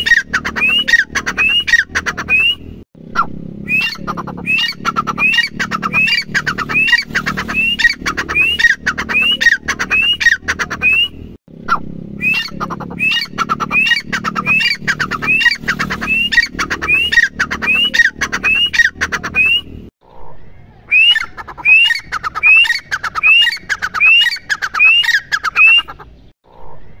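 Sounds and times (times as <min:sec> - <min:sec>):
francolin calling: 0:00.0 - 0:02.6, 0:03.7 - 0:11.1, 0:12.2 - 0:19.6, 0:20.9 - 0:26.0.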